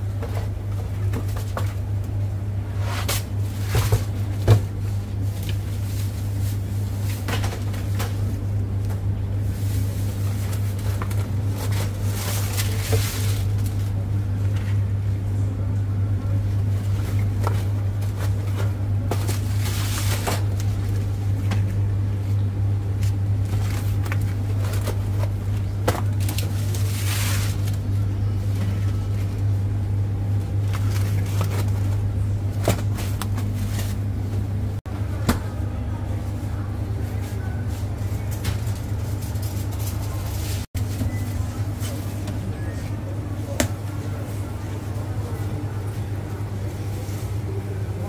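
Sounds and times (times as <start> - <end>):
low machine hum: 0.0 - 48.0.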